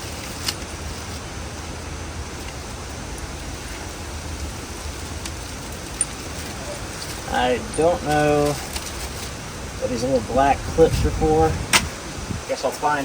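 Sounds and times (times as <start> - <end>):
steady hiss: 0.0 - 13.0
low rumble: 0.6 - 12.5.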